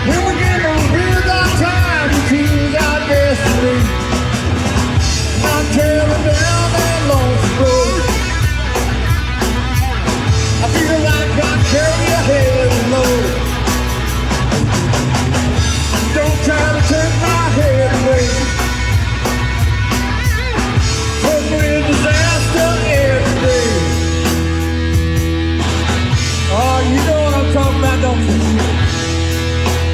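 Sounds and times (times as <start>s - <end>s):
electric guitar lead bent notes: 0.0s - 29.9s
rock band playing: 0.0s - 29.9s.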